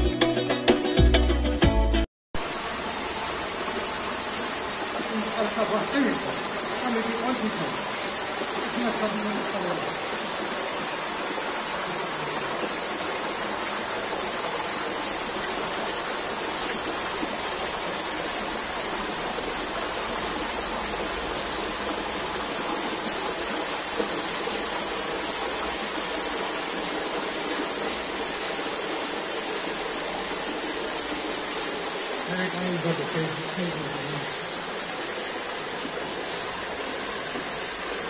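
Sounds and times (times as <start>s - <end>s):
waterfall splashing into pool: 2.4s - 38.0s.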